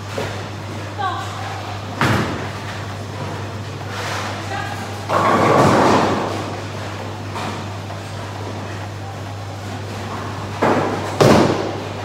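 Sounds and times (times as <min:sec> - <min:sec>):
bowling alley hum and clatter: 0:00.0 - 0:12.0.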